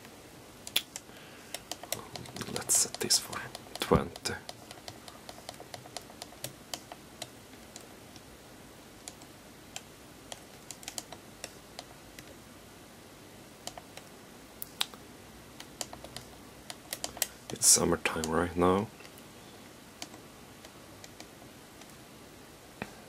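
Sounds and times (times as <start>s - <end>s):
low hiss: 0.0s - 23.0s.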